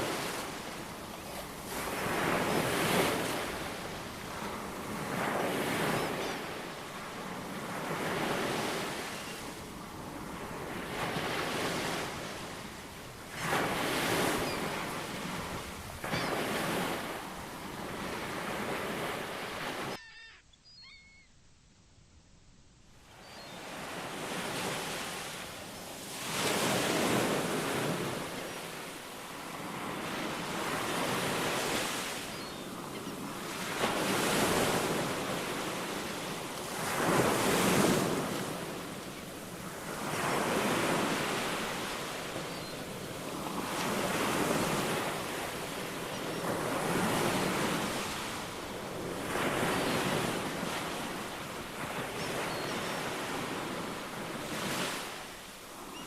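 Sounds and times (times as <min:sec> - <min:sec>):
ocean waves breaking: 0:00.0 - 0:20.0, 0:23.1 - 0:56.0.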